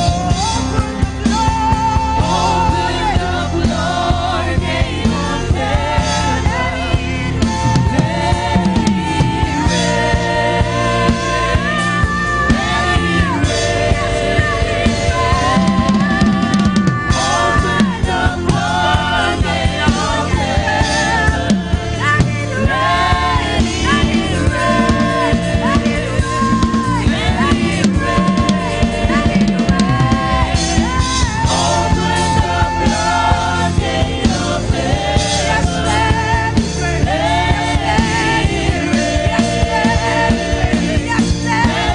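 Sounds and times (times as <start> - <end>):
band playing: 0.0 - 41.9
drum kit beat: 0.0 - 41.9
voices singing: 0.0 - 41.9.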